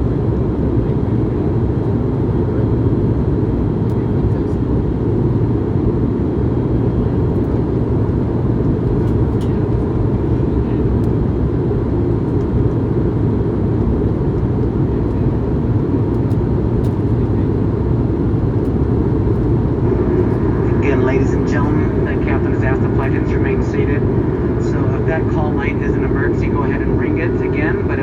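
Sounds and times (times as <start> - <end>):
aircraft cabin engine rumble: 0.0 - 28.0.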